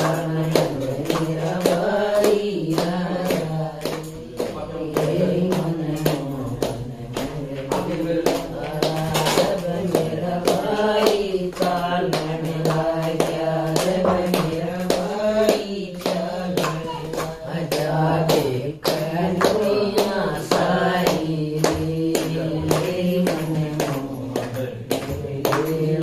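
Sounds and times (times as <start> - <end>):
hand claps: 0.0 - 26.0
women singing together: 0.0 - 26.0.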